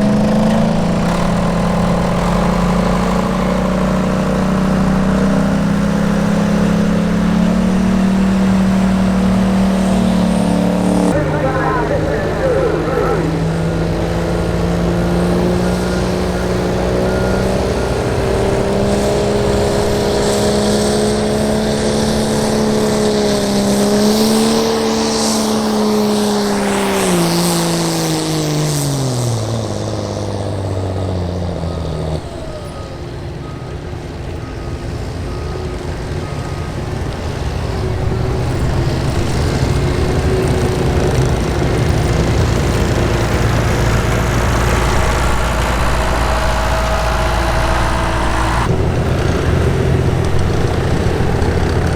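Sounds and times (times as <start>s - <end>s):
diesel truck engine at full throttle: 0.0s - 51.9s.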